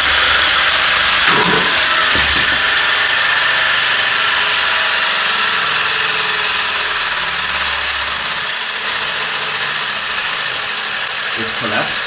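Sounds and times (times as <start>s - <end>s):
sewing machine motor running: 0.0s - 12.0s.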